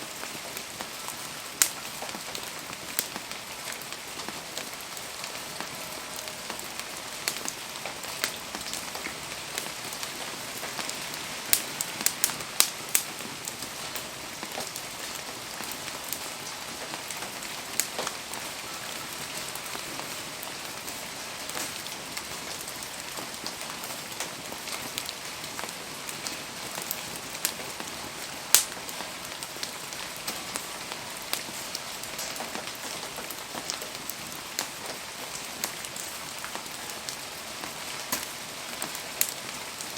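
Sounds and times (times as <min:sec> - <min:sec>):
rain hiss: 0:00.0 - 0:39.9
wood fire popping: 0:00.1 - 0:39.9.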